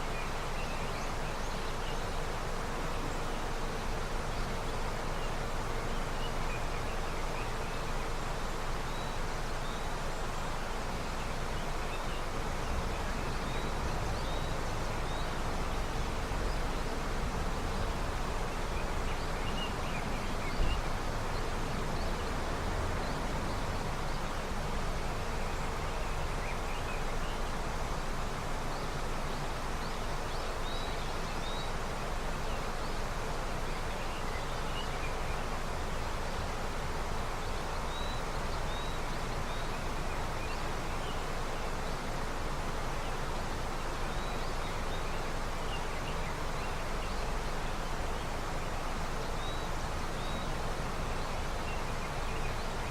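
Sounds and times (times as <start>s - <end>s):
river water rushing: 0.0s - 52.9s
small birds chirping: 0.0s - 52.9s.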